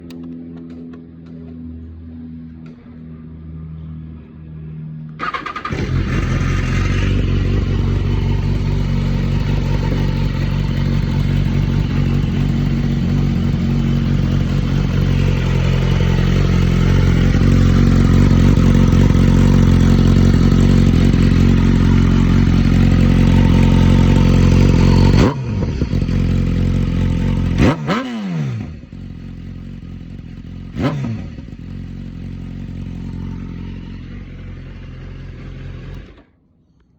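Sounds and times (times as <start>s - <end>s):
motorcycle engine idling: 5.2s - 27.9s, 28.6s - 36.3s
motorcycle throttle blips: 5.2s - 36.4s.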